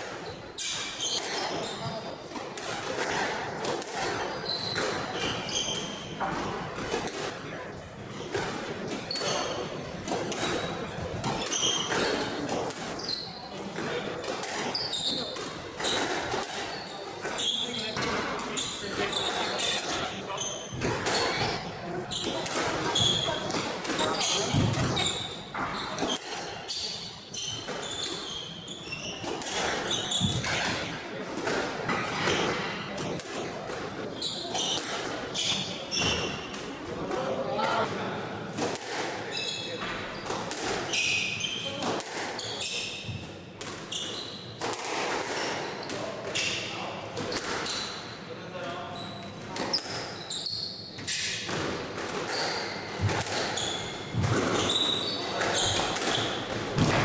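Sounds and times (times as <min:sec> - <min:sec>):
squash ball striking rackets and walls: 0:00.0 - 0:07.5, 0:08.1 - 0:37.3, 0:38.5 - 0:48.0, 0:49.5 - 0:57.0.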